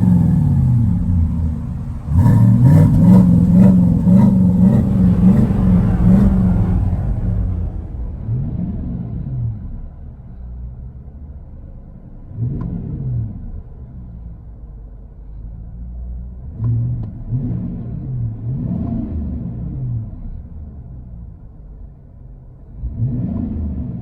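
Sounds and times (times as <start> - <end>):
truck engine idling and revving: 0.0 - 24.0.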